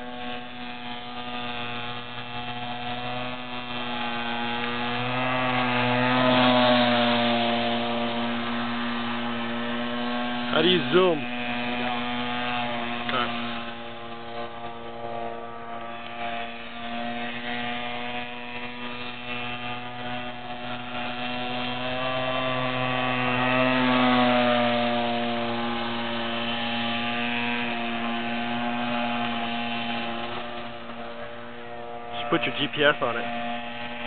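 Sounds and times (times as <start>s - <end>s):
two-stroke boat engine: 0.0s - 34.0s.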